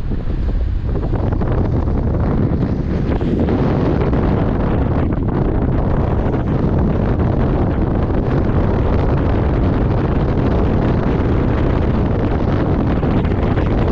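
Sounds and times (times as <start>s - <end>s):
snowmobile engine running: 0.0s - 13.9s
wind buffeting microphone: 0.0s - 13.9s.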